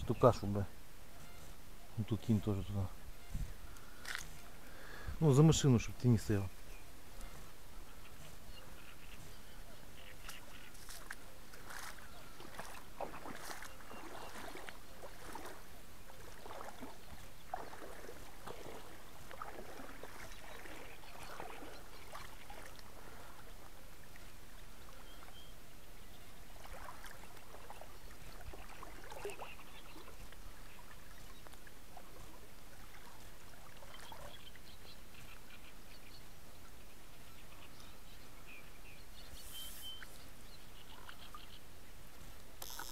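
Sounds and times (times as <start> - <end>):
steady waterside hiss: 0.0 - 42.9.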